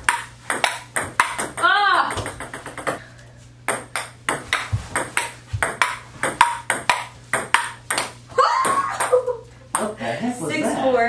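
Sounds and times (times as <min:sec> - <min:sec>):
ping pong ball hits: 0:00.0 - 0:03.0, 0:03.7 - 0:10.0.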